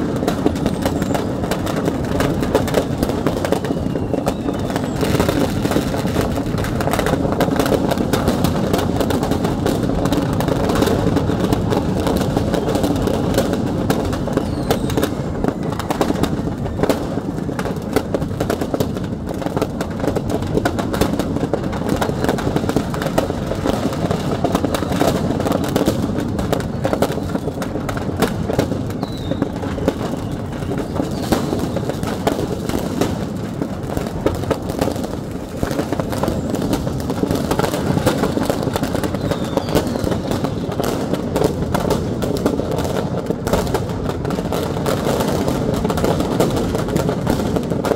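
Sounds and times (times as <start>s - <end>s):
firecrackers crackling and popping: 0.0s - 47.9s
heavy low rush of fire: 0.0s - 47.9s.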